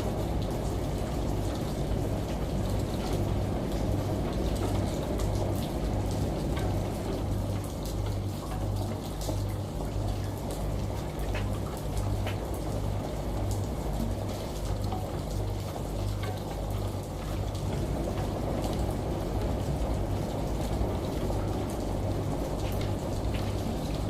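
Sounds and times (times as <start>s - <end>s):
light drips: 0.0s - 24.0s
running water: 0.0s - 24.0s
washing machine hum: 0.0s - 24.0s.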